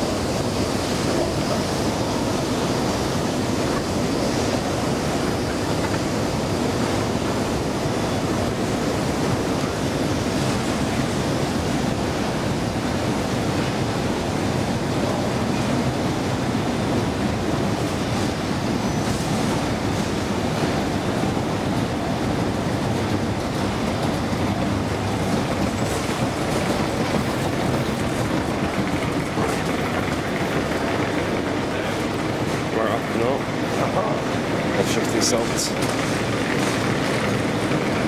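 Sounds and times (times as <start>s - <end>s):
metro station ambience: 0.0s - 38.0s.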